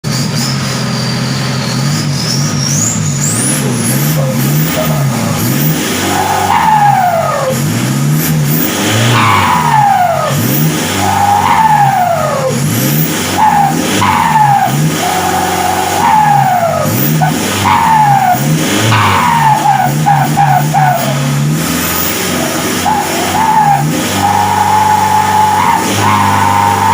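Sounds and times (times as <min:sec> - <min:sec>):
vehicle engine revving: 0:00.0 - 0:26.9.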